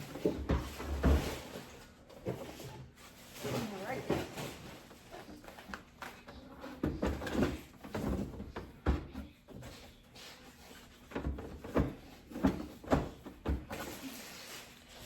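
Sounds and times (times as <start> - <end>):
items handled in refrigerator: 0.0 - 15.0.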